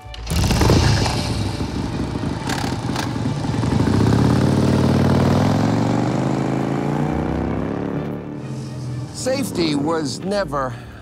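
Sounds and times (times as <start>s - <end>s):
motorcycle engine accelerating: 0.0s - 10.3s.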